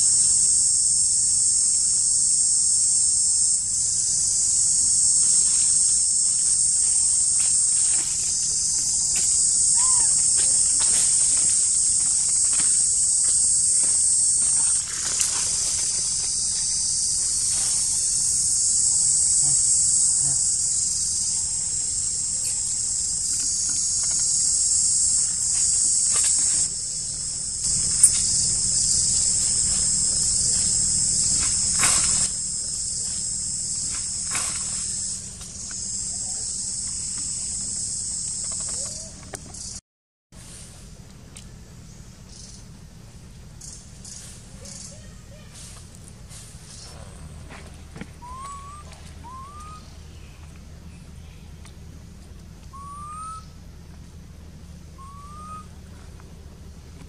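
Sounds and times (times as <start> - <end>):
high-pitched insect chorus: 0.0 - 39.8, 40.4 - 51.8, 52.6 - 56.8.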